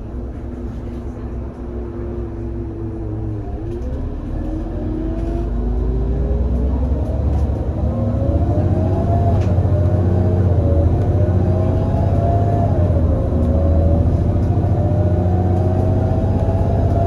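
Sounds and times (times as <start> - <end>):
bus engine pulling away: 0.0 - 17.0.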